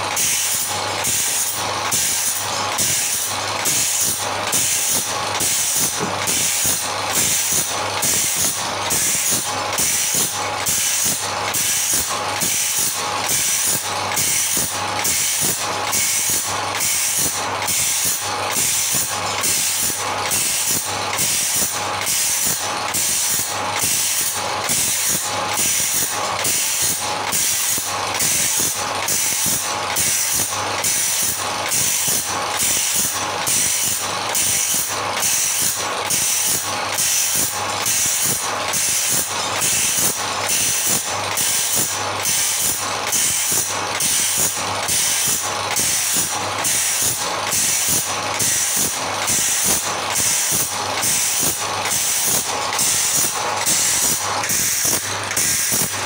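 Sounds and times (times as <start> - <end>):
electric motor humming: 0.0 - 56.0
grinding wheel hissing on steel: 0.0 - 56.0.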